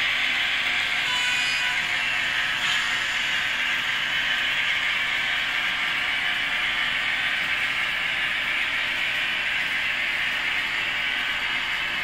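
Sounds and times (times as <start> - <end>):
model train wheels rolling on rails: 0.0 - 12.0.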